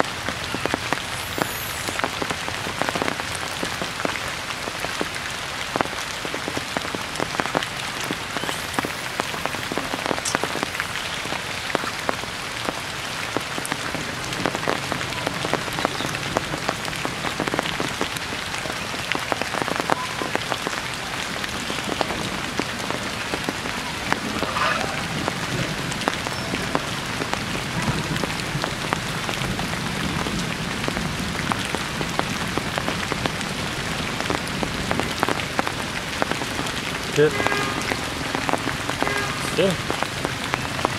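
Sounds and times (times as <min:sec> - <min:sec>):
heavy rain on foliage: 0:00.0 - 0:40.9.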